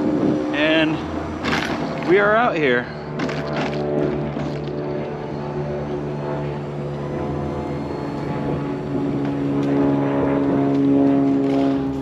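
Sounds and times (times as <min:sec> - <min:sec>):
mobility scooter motor whining: 0:00.0 - 0:12.0.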